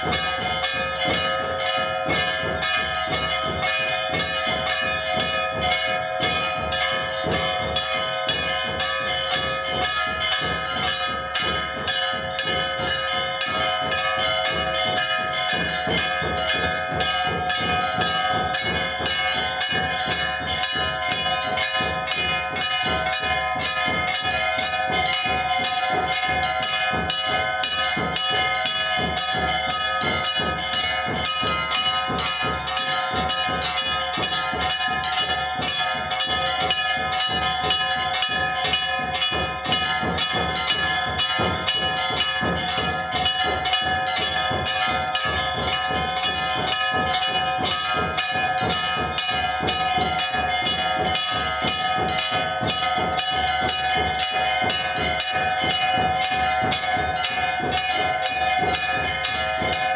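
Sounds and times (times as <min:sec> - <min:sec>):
temple bells ringing: 0:00.0 - 0:59.9.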